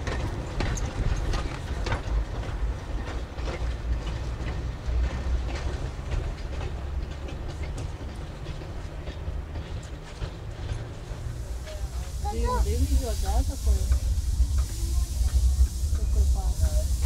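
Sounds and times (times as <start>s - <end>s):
wagon wheels clicking over rail joints: 0.0s - 14.2s
low rumble of rolling wagons: 0.0s - 17.0s.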